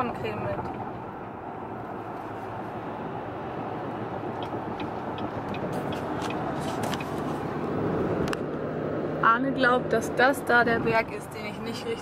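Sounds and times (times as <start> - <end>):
road and engine noise in car cabin: 0.0 - 12.0.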